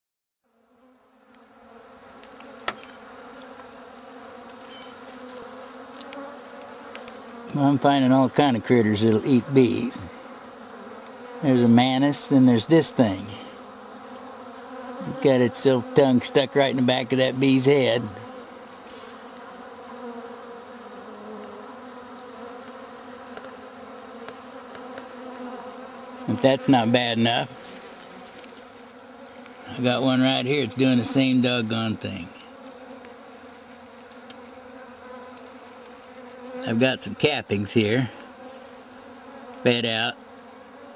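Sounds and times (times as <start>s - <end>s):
bees buzzing: 0.5s - 40.9s.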